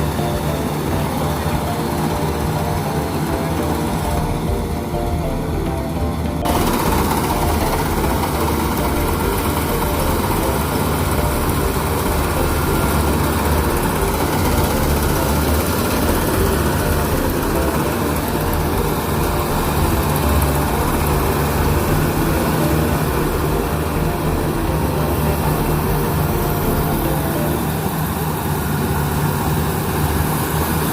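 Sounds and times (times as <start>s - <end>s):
combine harvester diesel engine: 0.0s - 30.9s.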